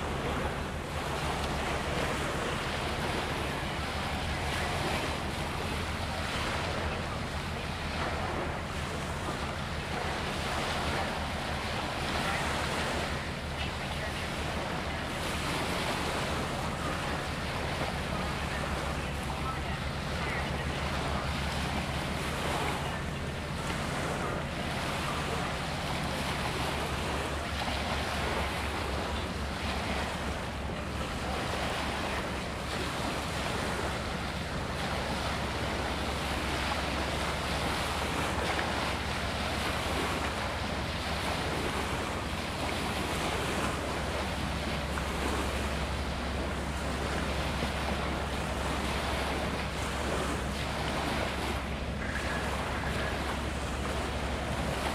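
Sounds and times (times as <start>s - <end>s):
low steady drone: 0.0s - 54.9s
small waves on rocky shore: 0.0s - 54.9s.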